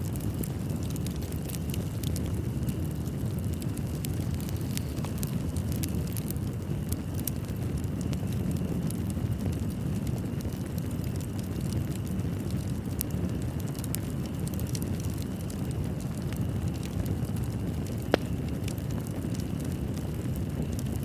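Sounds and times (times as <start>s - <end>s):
fireplace fire crackling and popping: 0.0s - 21.0s.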